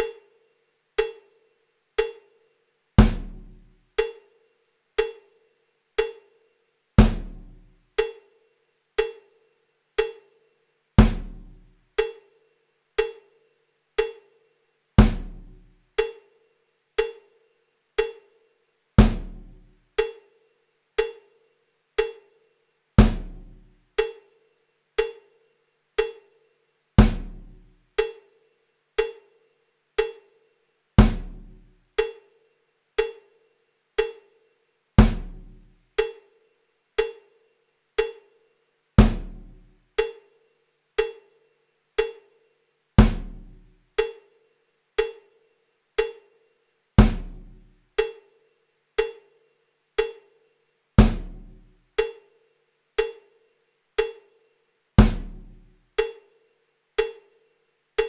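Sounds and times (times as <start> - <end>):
slow percussion loop: 0.0 - 58.0.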